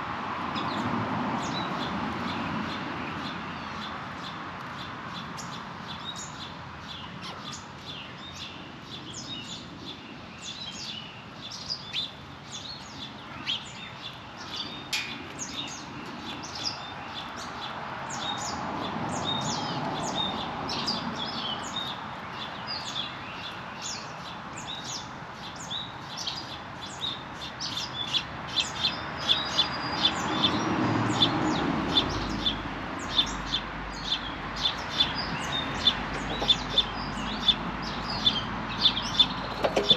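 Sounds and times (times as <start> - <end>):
songbirds chirping: 0.1 - 39.9.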